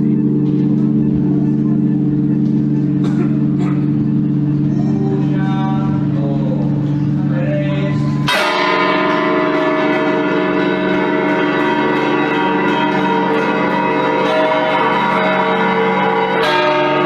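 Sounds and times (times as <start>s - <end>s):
church bells tolling: 0.0s - 17.0s.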